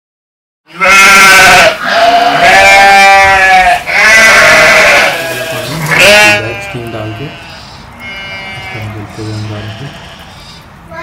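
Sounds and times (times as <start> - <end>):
animal bleating: 0.7 - 10.6.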